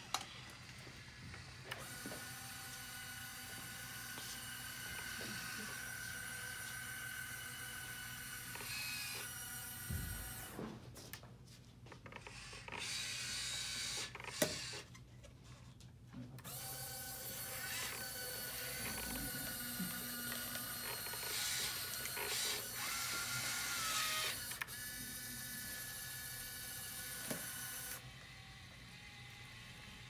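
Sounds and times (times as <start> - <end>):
small electric motors whirring: 0.0 - 10.6, 12.0 - 15.0, 16.4 - 30.0.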